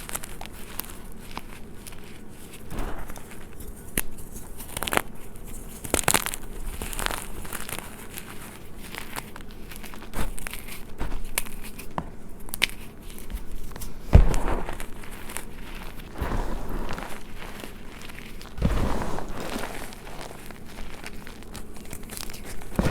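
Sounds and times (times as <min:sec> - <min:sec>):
chalk being crushed: 0:00.0 - 0:22.9.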